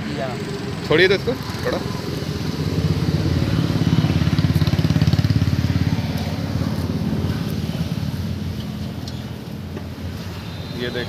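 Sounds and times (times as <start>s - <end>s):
motorcycle engine passing: 0.4s - 9.4s.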